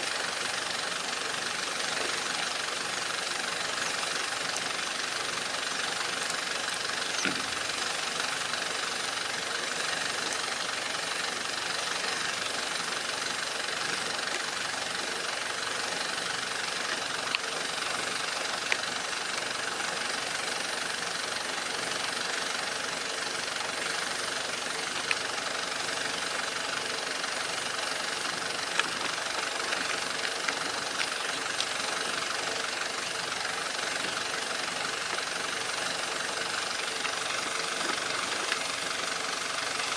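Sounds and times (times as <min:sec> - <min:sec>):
model excavator running: 0:00.0 - 0:39.9.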